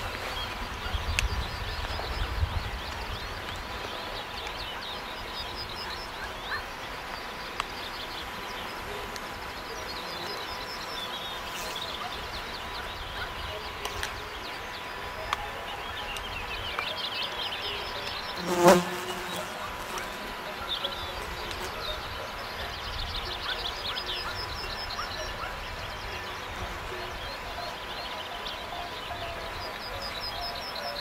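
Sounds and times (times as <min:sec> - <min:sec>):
songbirds chirping and trilling: 0:00.0 - 0:31.0
steady outdoor hiss: 0:00.0 - 0:31.0.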